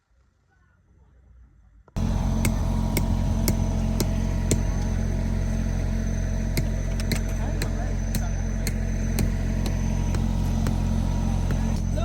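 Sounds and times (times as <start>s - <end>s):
engine running: 2.0s - 12.0s
sharp ticking: 2.0s - 12.0s.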